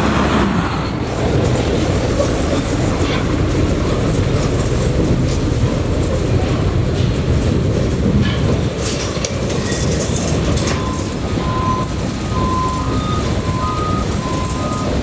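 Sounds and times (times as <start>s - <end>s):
garbage truck diesel engine rumbling: 0.0s - 15.0s.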